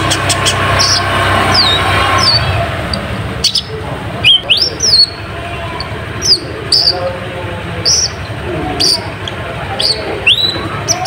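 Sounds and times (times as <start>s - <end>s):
sunbird high-pitched chirps: 0.0s - 2.5s, 3.4s - 7.1s, 7.8s - 11.0s.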